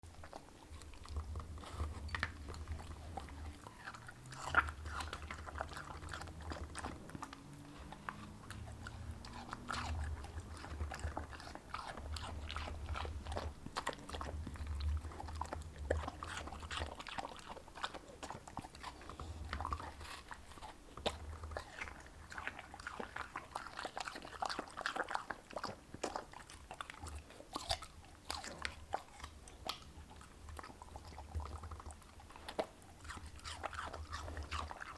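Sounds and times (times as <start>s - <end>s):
dog chewing watermelon: 0.0s - 34.9s.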